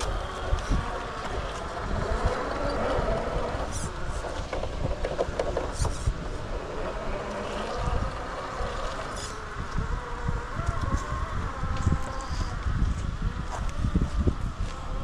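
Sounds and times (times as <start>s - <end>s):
electric motor and gears whining: 0.0s - 15.0s
wind buffeting microphone: 0.0s - 15.0s.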